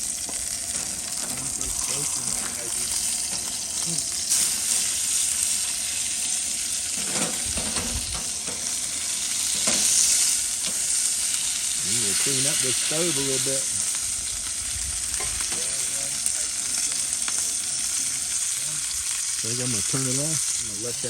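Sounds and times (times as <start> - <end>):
steak sizzling in a skillet: 0.0 - 21.0.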